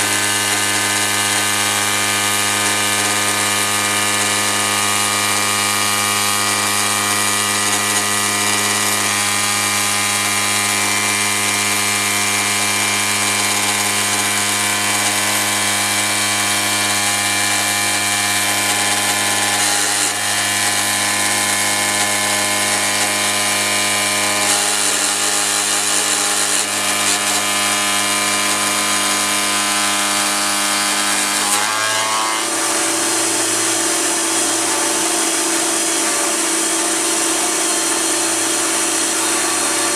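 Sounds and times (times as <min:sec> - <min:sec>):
milling machine cutting whine: 0:00.0 - 0:39.9.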